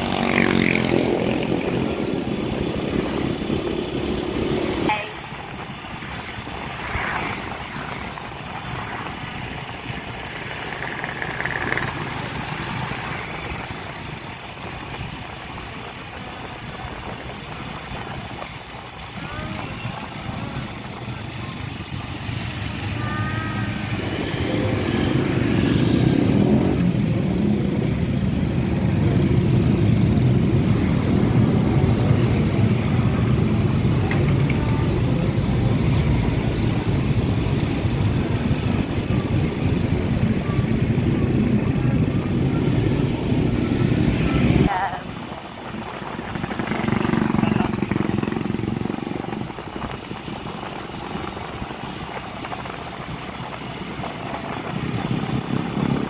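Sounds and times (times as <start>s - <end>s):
motorcycle and car engines: 0.0s - 56.0s
road and wind noise: 0.0s - 56.0s.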